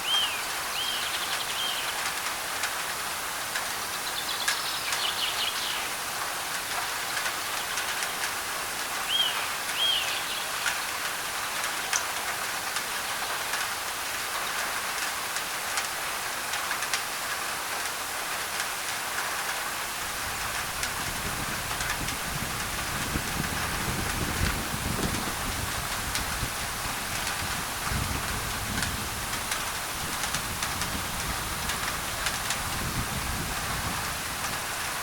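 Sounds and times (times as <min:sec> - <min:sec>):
heavy rain on a tin roof: 0:00.0 - 0:35.0.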